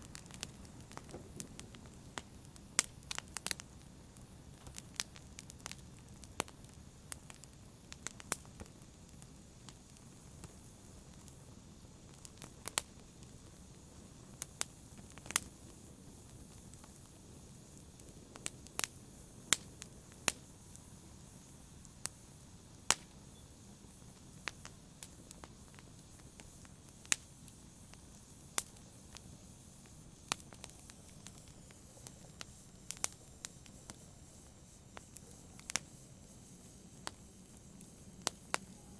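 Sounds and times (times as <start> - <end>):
campfire crackling: 0.0 - 38.9
fire hissing: 0.0 - 38.9.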